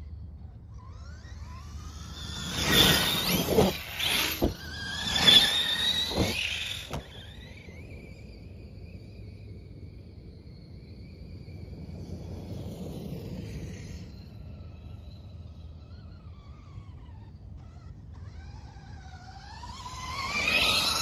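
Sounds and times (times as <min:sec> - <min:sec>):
electric motor whine: 0:00.0 - 0:09.8, 0:11.4 - 0:21.0
faint distant high whine: 0:00.0 - 0:21.0.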